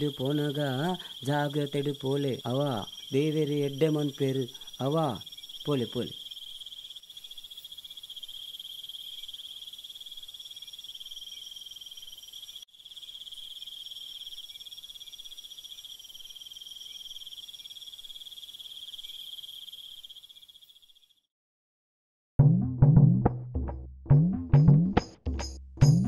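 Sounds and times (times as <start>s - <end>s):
high-pitched insect trilling: 0.0s - 21.2s.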